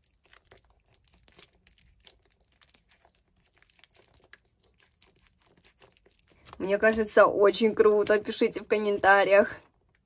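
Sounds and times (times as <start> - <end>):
tape squishy crinkling: 0.0 - 10.0.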